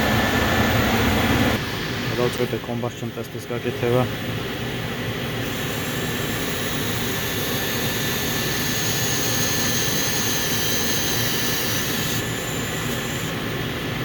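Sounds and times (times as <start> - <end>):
gas furnace running: 0.0 - 14.0.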